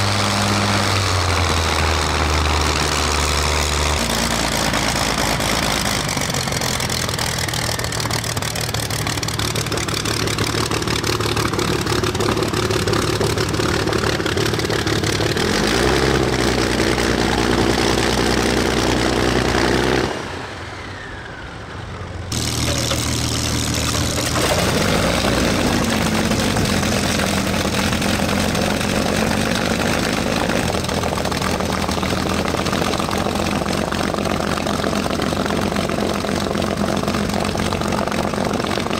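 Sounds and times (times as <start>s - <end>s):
aircraft piston engine running: 0.0s - 20.0s, 22.3s - 38.9s.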